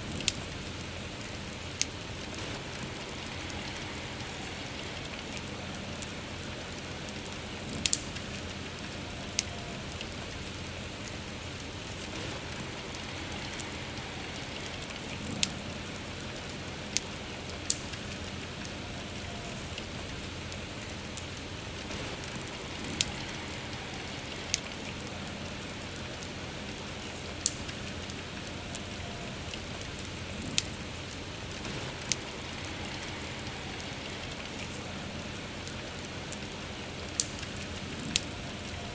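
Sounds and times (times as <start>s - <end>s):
campfire popping and crackling: 0.0s - 38.9s
soft rain hissing: 0.0s - 38.9s.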